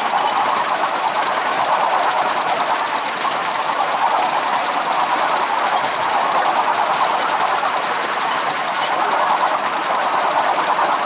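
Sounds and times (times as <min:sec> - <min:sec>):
miniature train clattering: 0:00.0 - 0:11.0.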